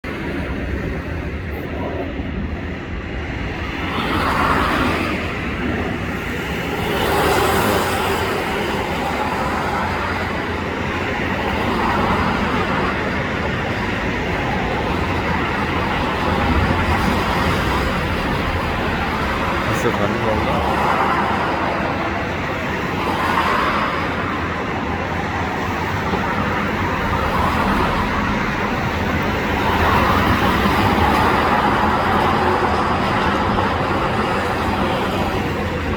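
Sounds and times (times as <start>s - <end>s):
jet airliner passing overhead: 0.0s - 35.9s.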